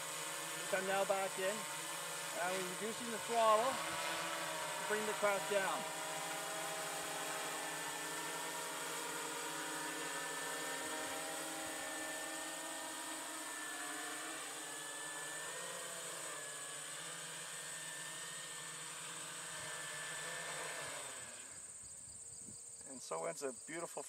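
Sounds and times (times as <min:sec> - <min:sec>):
drone propellers buzzing: 0:00.0 - 0:21.8.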